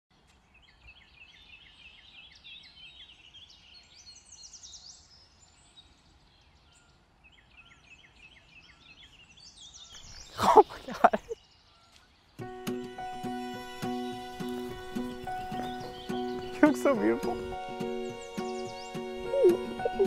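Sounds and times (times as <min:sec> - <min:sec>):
faint birds chirping: 0:00.1 - 0:20.0.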